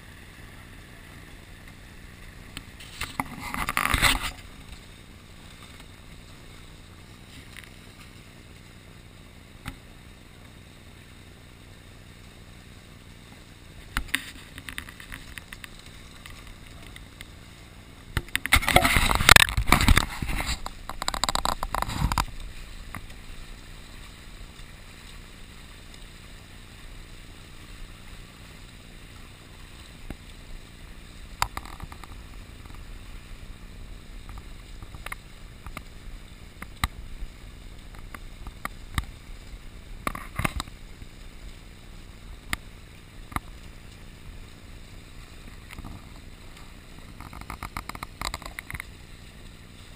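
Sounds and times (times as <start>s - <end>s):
wind and water rushing: 0.0s - 49.9s.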